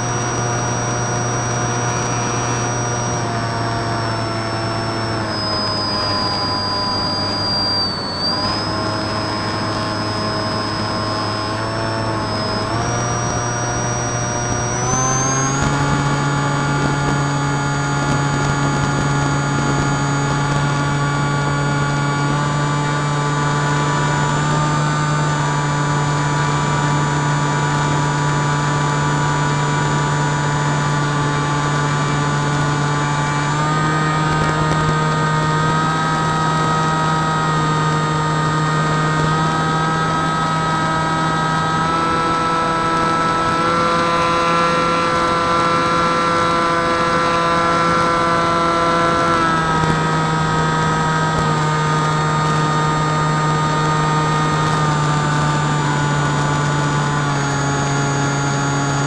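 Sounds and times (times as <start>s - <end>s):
ultralight aircraft engine in flight: 0.0s - 59.0s.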